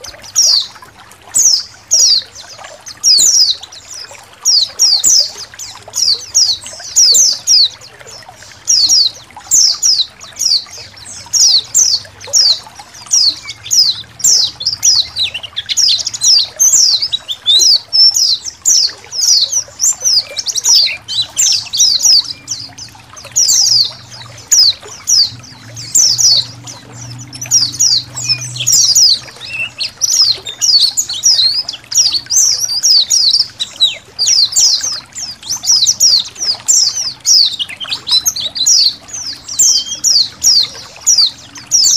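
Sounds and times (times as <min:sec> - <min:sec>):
birds chirping and twittering: 0:00.0 - 0:41.9
faint trickling water: 0:00.0 - 0:41.9.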